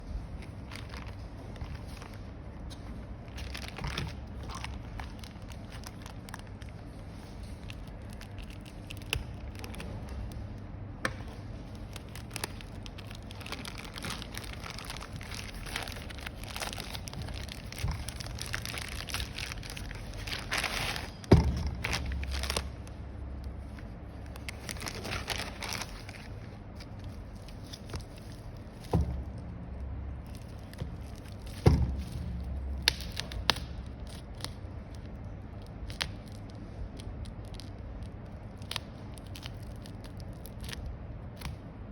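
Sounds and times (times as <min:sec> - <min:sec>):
packaging crinkling and rustling: 0:00.0 - 0:41.6.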